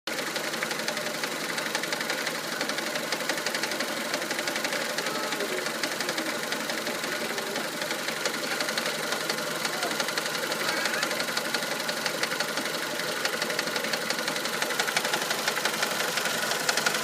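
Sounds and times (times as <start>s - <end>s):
engine running with fast knocking: 0.1s - 17.0s.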